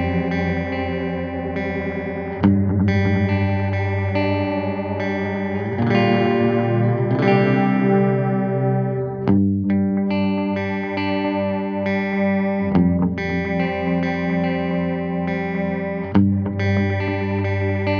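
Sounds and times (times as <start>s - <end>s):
electric guitar with echo delay: 0.0s - 17.9s.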